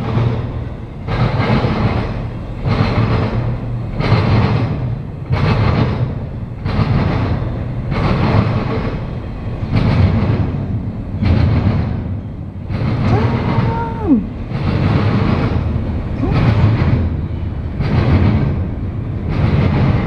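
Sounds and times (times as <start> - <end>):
freight train cars rolling past: 0.0 - 20.0.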